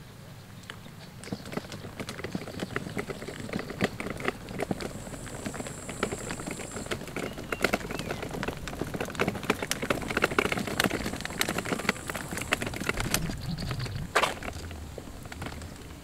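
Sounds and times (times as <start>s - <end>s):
stroller wheels rolling on asphalt: 0.4s - 16.0s.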